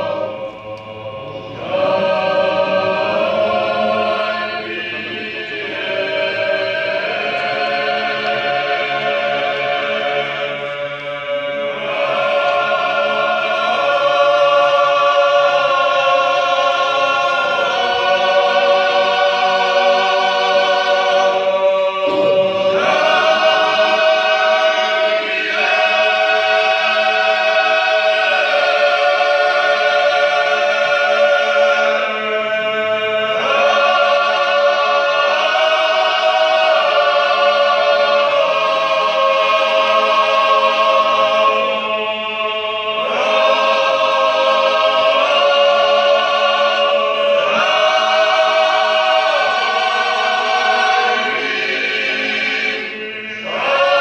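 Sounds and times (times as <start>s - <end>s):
men's choir singing unaccompanied: 0.0s - 54.0s.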